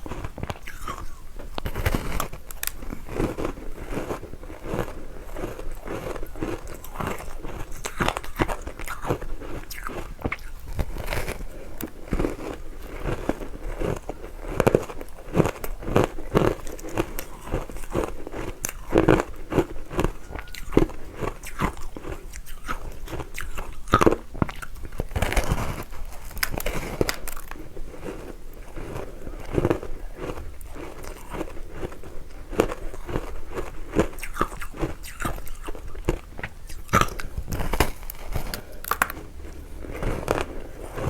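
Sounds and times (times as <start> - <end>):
chewing ice crunches: 0.0 - 41.0.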